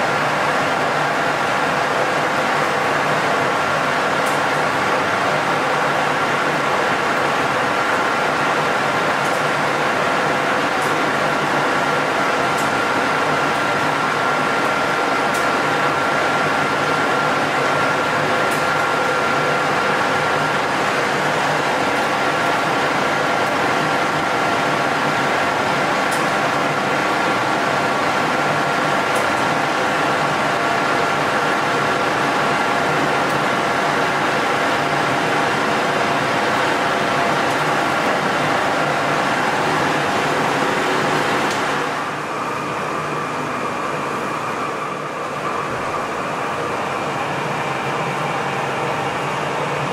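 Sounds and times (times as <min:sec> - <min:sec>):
metal lathe running: 0:00.0 - 0:49.9.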